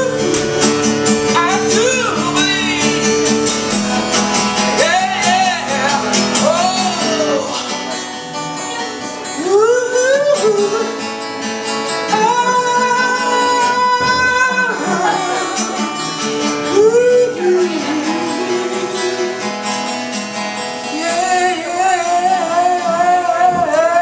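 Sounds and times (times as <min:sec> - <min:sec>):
man singing: 0:00.0 - 0:11.2, 0:11.9 - 0:24.0
acoustic guitar strumming: 0:00.0 - 0:24.0.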